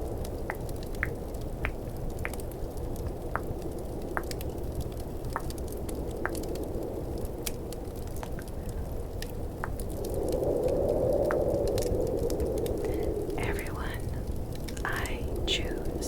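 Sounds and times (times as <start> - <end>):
fireplace crackling: 0.0 - 16.0
snowstorm wind: 0.0 - 16.0.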